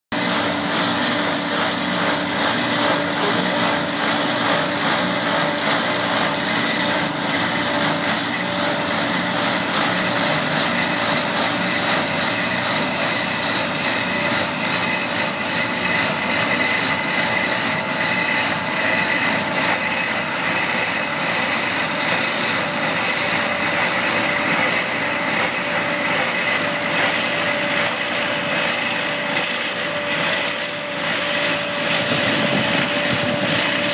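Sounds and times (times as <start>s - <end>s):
trencher mechanical din: 0.2s - 12.0s, 16.9s - 33.9s
constant whining tones: 0.2s - 33.9s.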